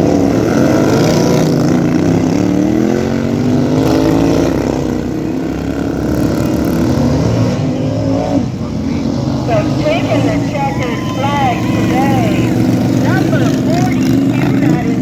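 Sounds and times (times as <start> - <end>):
lawn tractor engines racing: 0.0 - 15.0.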